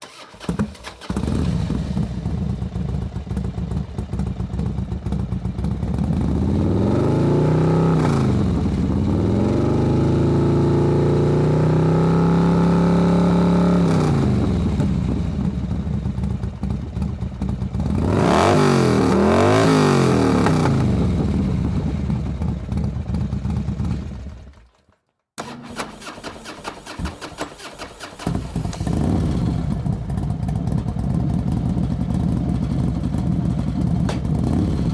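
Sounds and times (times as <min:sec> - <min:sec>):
motorcycle engine idling and revving: 0:00.0 - 0:24.8, 0:25.9 - 0:34.9.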